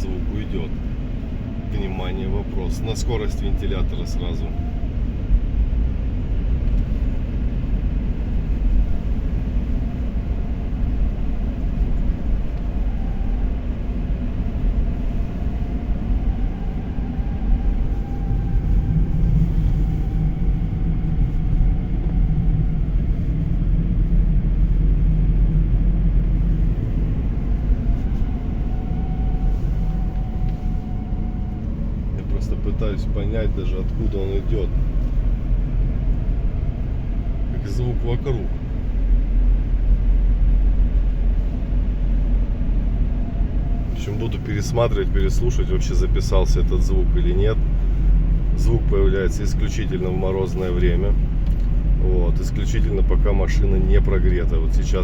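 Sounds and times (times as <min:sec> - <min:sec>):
faint howl drifting in pitch: 0:00.0 - 0:55.0
road and engine rumble: 0:00.0 - 0:55.0.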